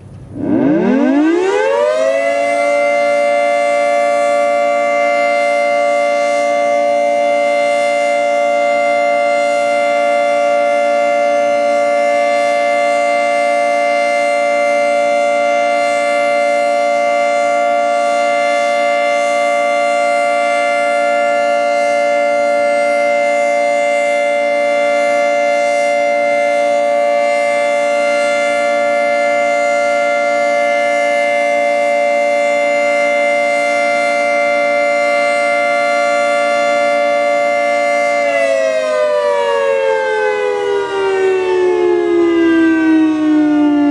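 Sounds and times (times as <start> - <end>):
two-tone warning siren: 0.0 - 43.9.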